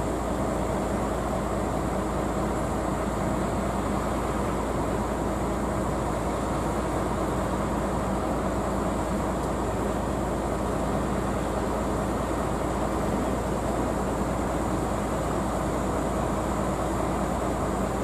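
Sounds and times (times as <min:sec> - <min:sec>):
idling railway equipment hum: 0:00.0 - 0:18.0.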